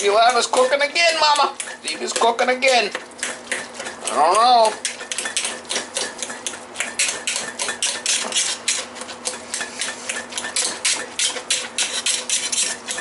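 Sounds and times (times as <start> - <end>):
potato masher clanking on pot: 0.0 - 13.0.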